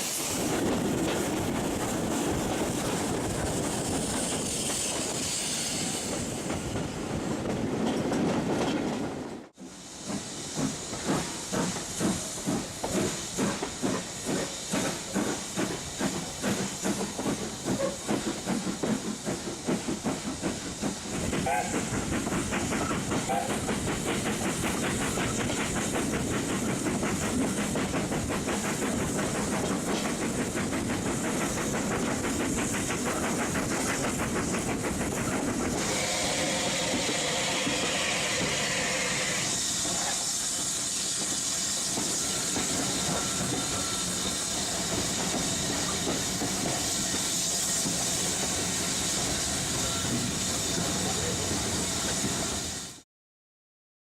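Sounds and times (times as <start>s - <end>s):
loud steam hiss: 0.0s - 7.4s, 9.5s - 53.0s
steam train rhythmic beat: 9.6s - 53.0s.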